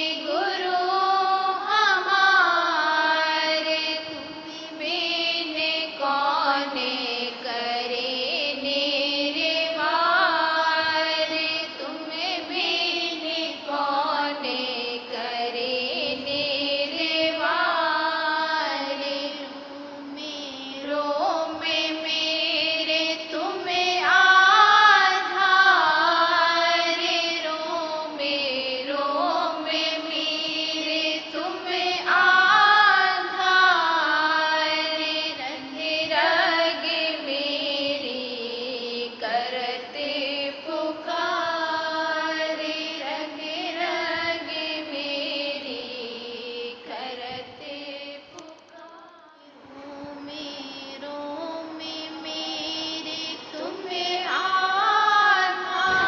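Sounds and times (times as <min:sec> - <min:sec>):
person chanting a devotional hymn: 0:00.0 - 0:56.0.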